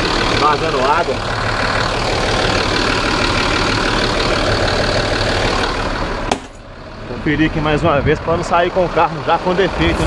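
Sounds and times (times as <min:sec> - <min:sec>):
bus diesel engine idling: 0:00.0 - 0:10.0.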